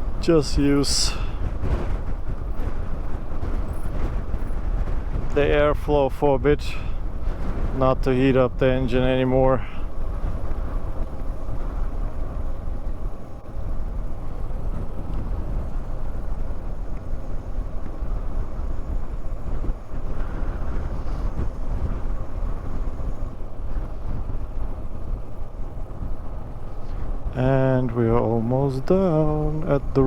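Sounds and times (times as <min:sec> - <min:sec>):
tyre and road rumble: 0:00.0 - 0:30.0
wind buffeting microphone: 0:00.0 - 0:30.0.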